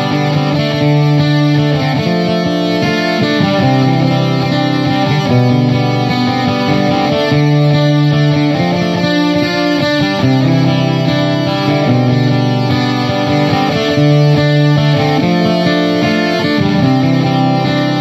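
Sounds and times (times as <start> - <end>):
distorted electric guitar music: 0.0 - 18.0.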